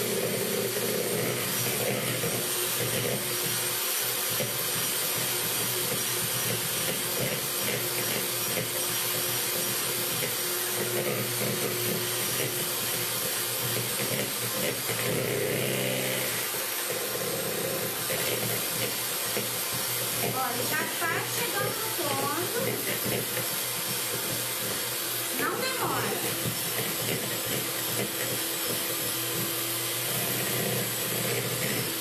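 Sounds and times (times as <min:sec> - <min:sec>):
electric hand mixer whipping: 0:00.0 - 0:32.0.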